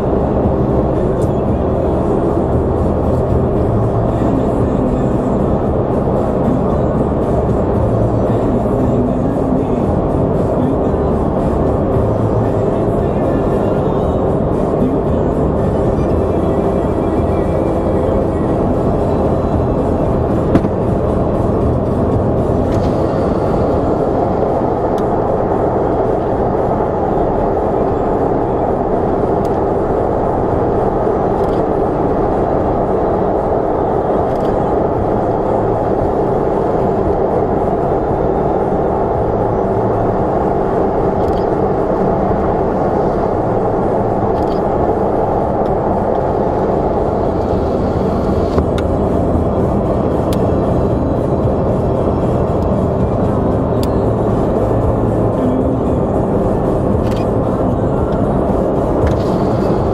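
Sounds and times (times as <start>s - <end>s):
road and engine noise inside car: 0.0s - 59.9s.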